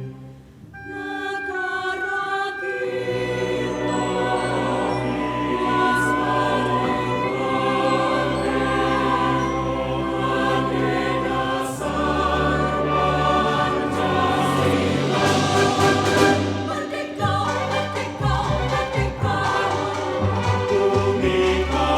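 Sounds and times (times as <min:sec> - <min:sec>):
choir singing: 0:00.8 - 0:21.9
orchestra accompanying: 0:00.8 - 0:21.9.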